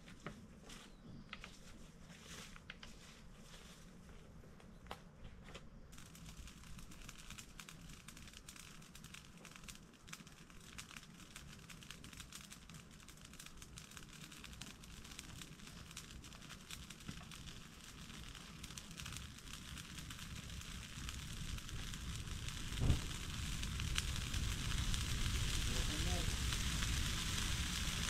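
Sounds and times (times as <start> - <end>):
brush fire crackling: 0.0 - 28.0.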